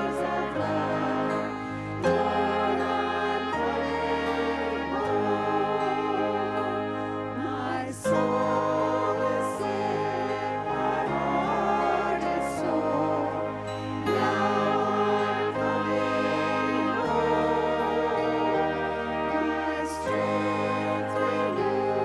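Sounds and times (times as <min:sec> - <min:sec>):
sustained accompaniment: 0:00.0 - 0:22.0
voices singing a hymn: 0:00.0 - 0:22.0.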